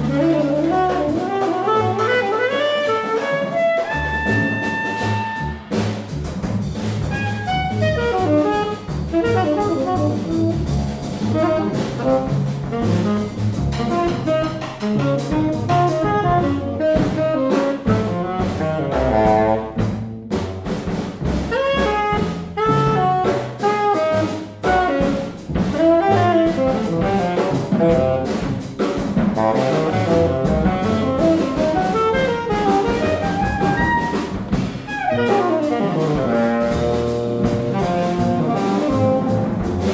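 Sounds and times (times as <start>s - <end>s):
saxophones playing jazz: 0.0s - 5.9s, 6.7s - 20.2s, 21.3s - 39.9s
busy drum kit: 0.0s - 39.9s
double bass: 0.0s - 39.9s.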